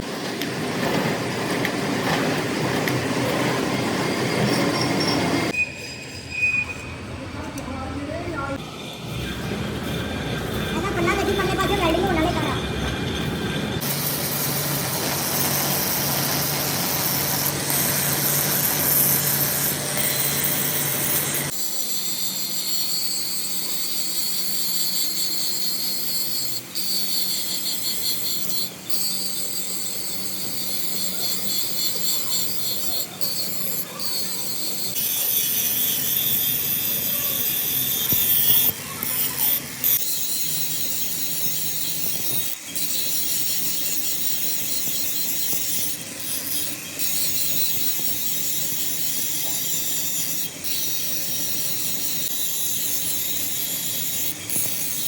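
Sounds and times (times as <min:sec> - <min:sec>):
power tool grinding metal: 0:08.2 - 0:55.0.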